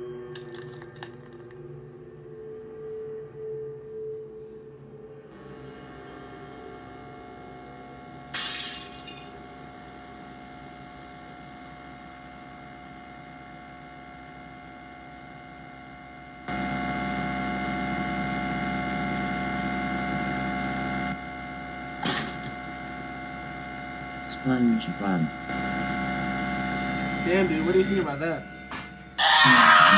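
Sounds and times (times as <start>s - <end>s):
electronic drone: 0.0s - 12.8s, 16.2s - 29.9s.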